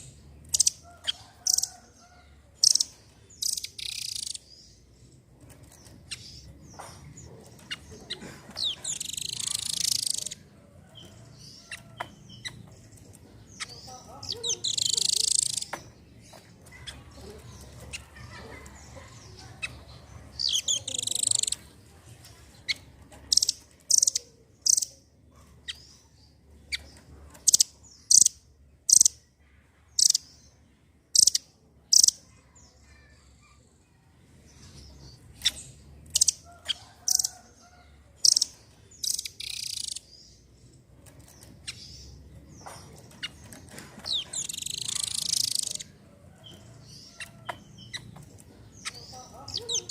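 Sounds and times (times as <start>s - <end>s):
bird chirping trills: 0.0s - 29.3s, 29.9s - 33.2s, 34.4s - 49.9s.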